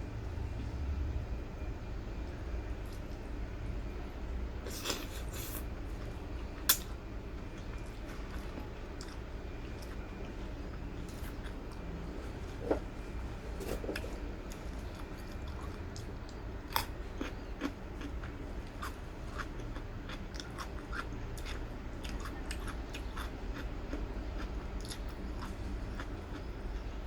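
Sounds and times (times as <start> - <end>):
person chewing food: 4.6 - 27.0.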